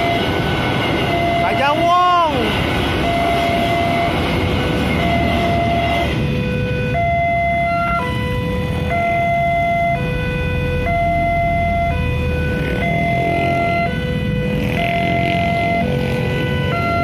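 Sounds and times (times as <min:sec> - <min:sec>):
level crossing electronic alarm: 0:00.0 - 0:17.0.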